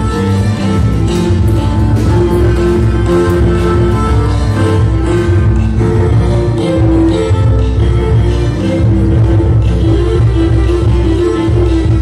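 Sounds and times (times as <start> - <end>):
string instruments melody: 0.0 - 12.0.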